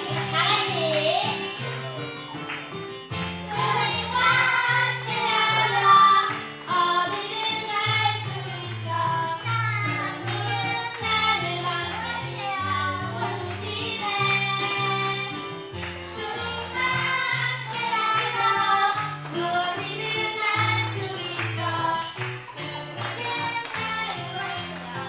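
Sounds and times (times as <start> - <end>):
people singing praise song: 3.5 - 25.0.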